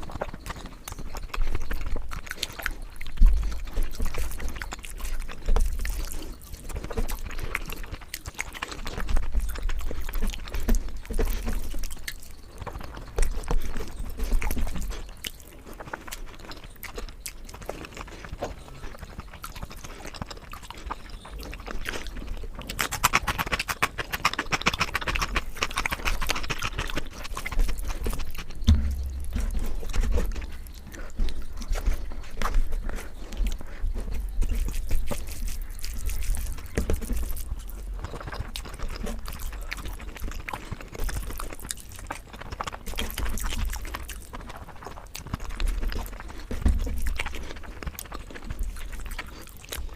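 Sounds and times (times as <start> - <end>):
mouth clicks: 0.0 - 49.9
wet chewing and lip smacking: 0.0 - 49.9.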